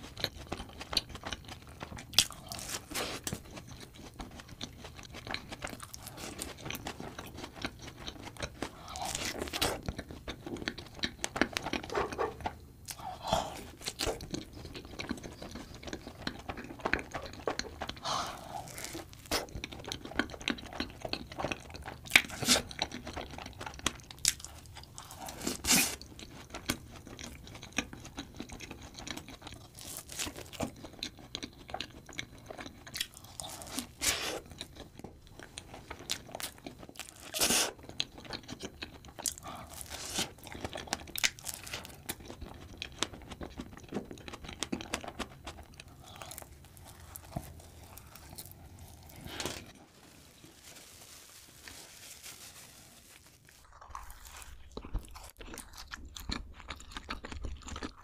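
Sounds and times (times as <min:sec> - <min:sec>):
person chewing donut: 0:00.0 - 0:49.8, 0:53.5 - 0:58.0.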